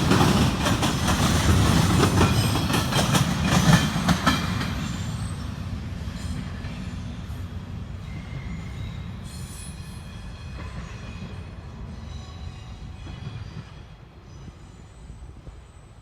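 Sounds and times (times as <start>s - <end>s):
freight train rumbling past: 0.0s - 16.0s
train wheel squeal: 0.0s - 16.0s.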